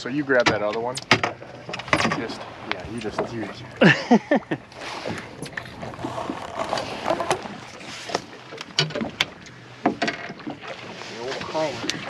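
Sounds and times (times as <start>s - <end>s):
water washing: 0.0s - 12.0s
wind: 0.0s - 12.0s.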